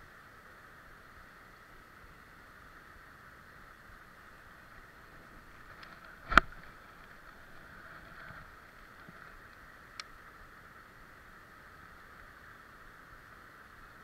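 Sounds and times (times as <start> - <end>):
flowing creek water: 0.0 - 14.0.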